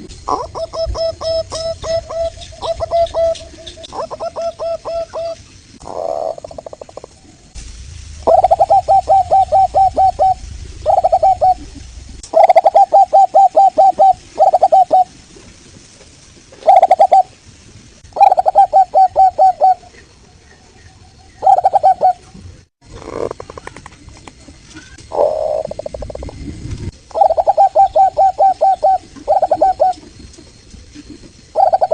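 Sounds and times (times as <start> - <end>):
dove cooing: 0.2 - 7.2, 8.3 - 15.2, 16.6 - 17.4, 18.2 - 20.2, 21.4 - 23.9, 24.8 - 26.4, 27.1 - 31.9.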